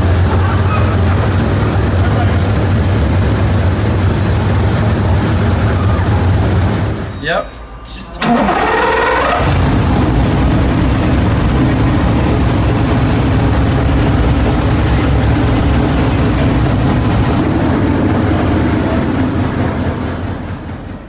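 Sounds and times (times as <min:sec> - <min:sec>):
car engine starting and running: 0:00.0 - 0:21.0.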